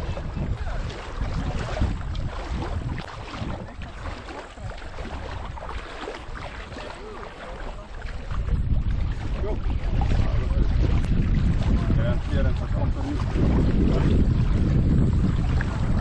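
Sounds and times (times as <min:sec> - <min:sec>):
rushing water: 0:00.0 - 0:16.0
wind buffeting microphone: 0:00.0 - 0:16.0.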